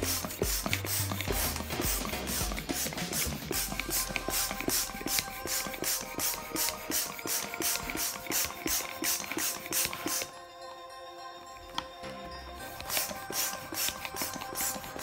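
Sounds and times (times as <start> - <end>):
hand pump air hissing: 0.0 - 10.3, 12.6 - 15.0.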